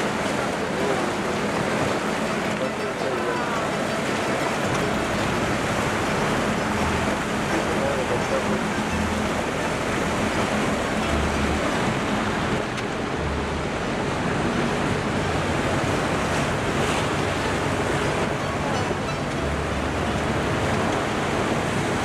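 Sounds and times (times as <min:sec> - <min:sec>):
low rumbles: 0:00.0 - 0:22.0
water rushing past hull: 0:00.0 - 0:22.0.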